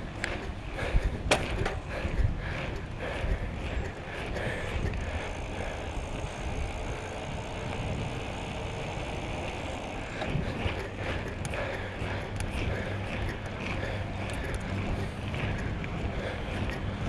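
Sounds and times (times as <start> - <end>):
tyres on road: 0.0 - 17.0
wind buffeting microphone: 0.0 - 17.0.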